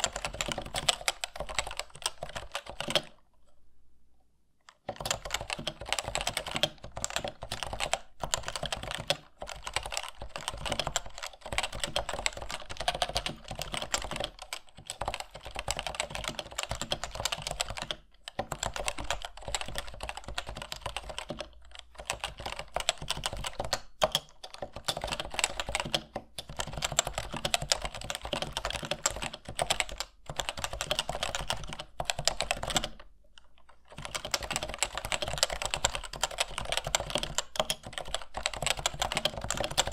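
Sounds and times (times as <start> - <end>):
fast typing on keyboard: 0.0 - 3.2, 4.8 - 39.9.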